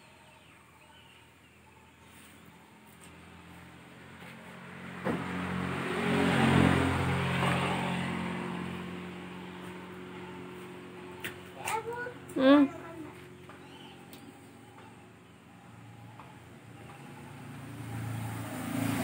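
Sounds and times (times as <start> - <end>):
vehicle engine passing by: 1.3 - 19.0.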